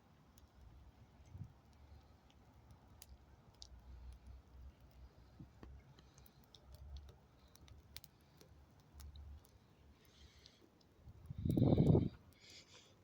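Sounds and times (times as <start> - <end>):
faint wood fire crackling: 0.0 - 13.0.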